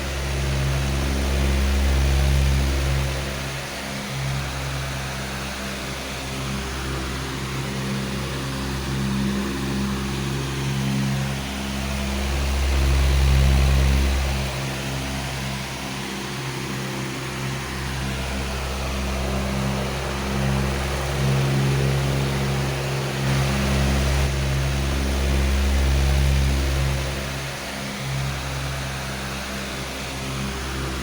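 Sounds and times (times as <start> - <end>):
electric fan running: 0.0 - 31.0.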